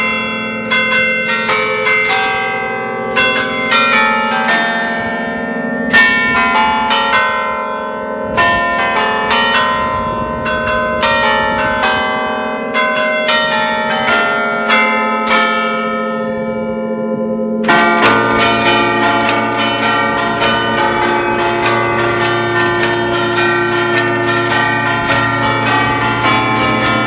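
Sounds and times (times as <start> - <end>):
deep bells ringing: 0.0 - 16.9, 17.5 - 27.0
church bells struck in runs: 0.0 - 27.0.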